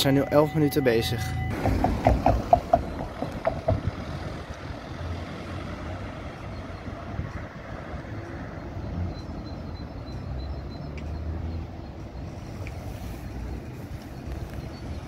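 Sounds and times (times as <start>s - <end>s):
bus pulling away: 0.0s - 15.0s
low rumble of traffic: 0.0s - 15.0s.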